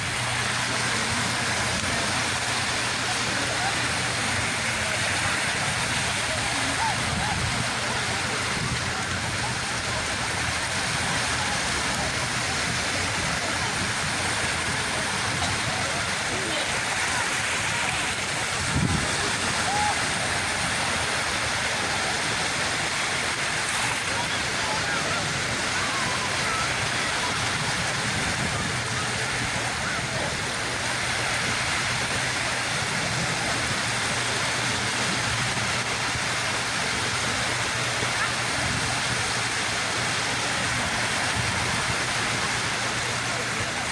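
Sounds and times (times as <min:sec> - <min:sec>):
low rumble of waves: 0:00.0 - 0:43.9
surf hissing: 0:00.0 - 0:43.9.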